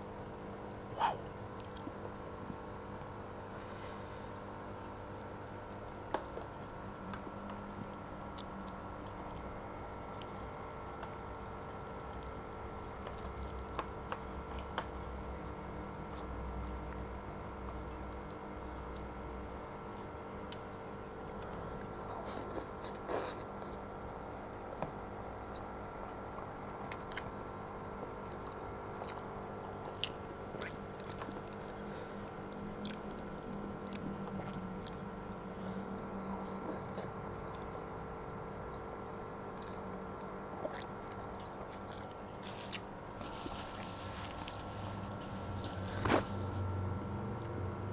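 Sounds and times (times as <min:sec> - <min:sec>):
steady electrical hum: 0:00.0 - 0:47.9
person chewing food: 0:00.3 - 0:47.8.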